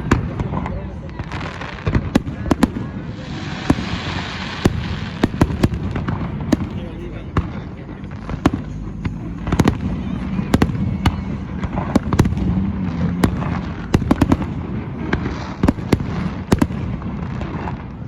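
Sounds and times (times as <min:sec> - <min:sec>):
fireworks bangs and cracks: 0:00.0 - 0:18.0.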